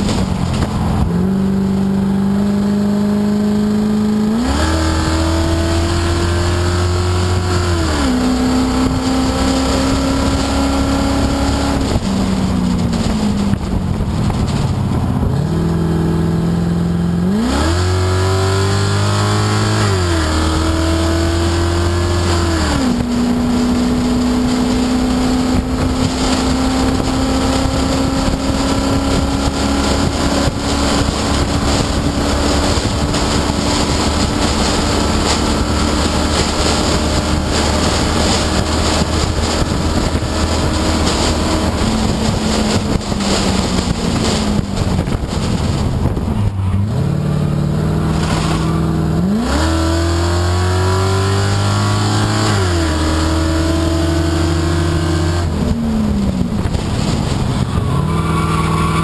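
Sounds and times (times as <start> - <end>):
race car engine accelerating: 0.0 - 59.0
wind noise: 0.0 - 59.0.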